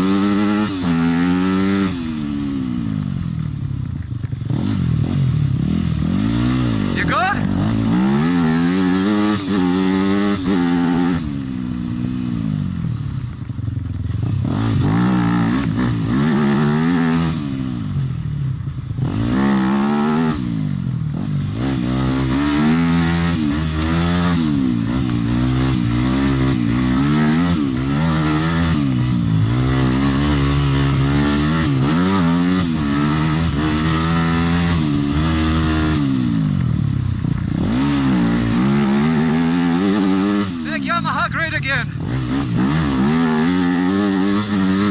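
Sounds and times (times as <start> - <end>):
dirt bike engine revving: 0.0 - 3.6, 4.3 - 44.9.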